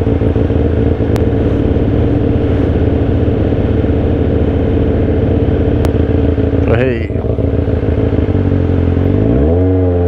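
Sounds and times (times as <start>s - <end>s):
motorcycle engine idling: 0.0s - 9.4s.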